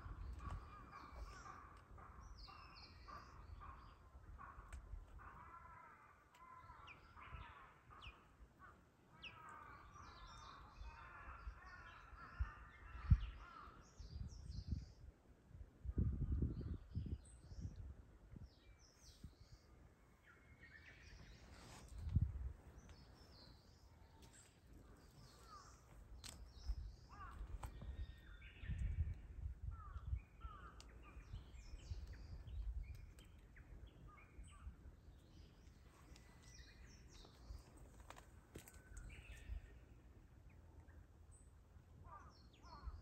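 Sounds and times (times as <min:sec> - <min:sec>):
birds chirping: 0:00.0 - 0:15.0, 0:18.6 - 0:43.0.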